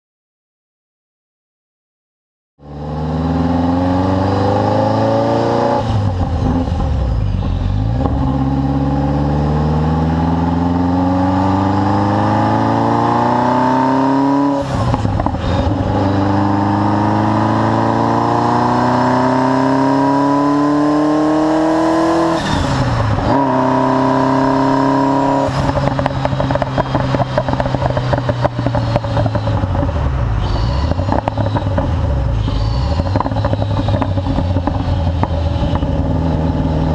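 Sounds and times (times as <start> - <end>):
sports car engine accelerating: 2.6 - 36.9.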